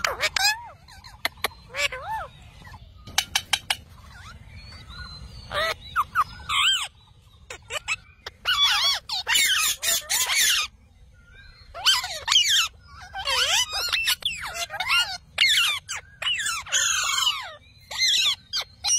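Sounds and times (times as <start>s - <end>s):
parakeets squawking: 0.0s - 18.9s.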